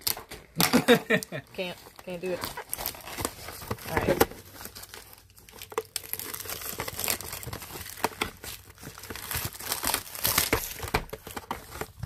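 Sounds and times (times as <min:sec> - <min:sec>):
plastic shrink-wrap crinkling: 0:00.0 - 0:12.0.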